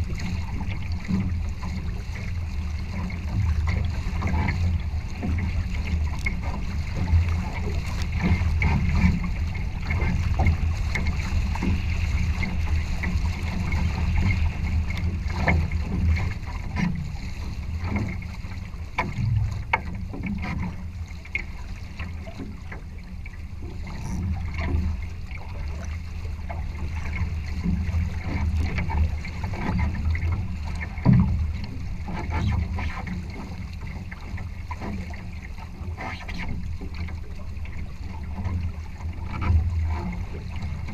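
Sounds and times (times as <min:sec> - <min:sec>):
water rushing along hull: 0:00.0 - 0:40.9
water slapping: 0:00.0 - 0:40.9
wind rumble on microphone: 0:00.0 - 0:40.9.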